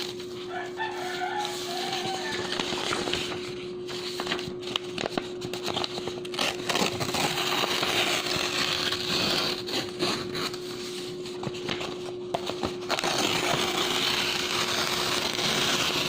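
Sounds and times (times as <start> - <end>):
paper tearing: 1.0 - 11.0, 12.4 - 16.0.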